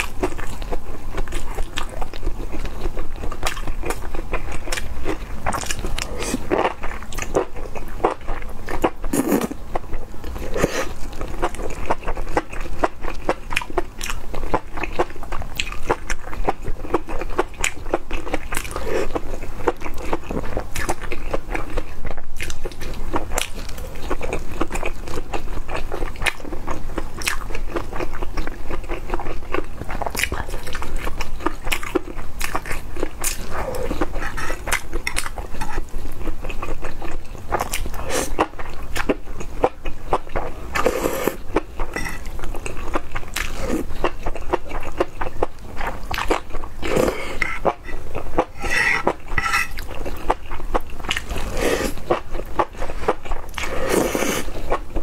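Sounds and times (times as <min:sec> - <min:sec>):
wet chewing and slurping: 0:00.0 - 0:55.0.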